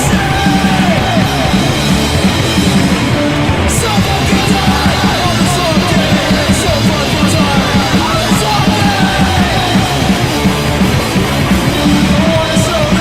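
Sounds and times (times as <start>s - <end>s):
punk rock band playing: 0.0s - 13.0s.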